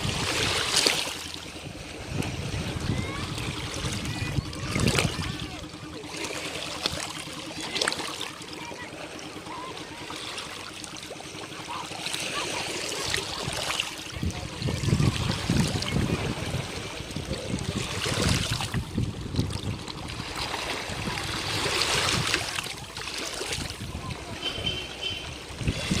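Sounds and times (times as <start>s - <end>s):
small waves washing on beach: 0.0s - 26.0s
surf splashing: 0.0s - 26.0s.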